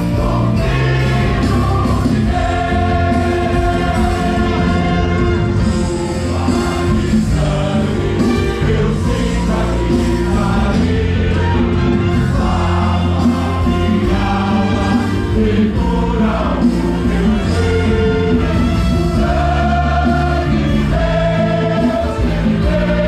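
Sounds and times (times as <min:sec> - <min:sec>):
choir singing gospel: 0:00.0 - 0:23.0
instrumental accompaniment: 0:00.0 - 0:23.0.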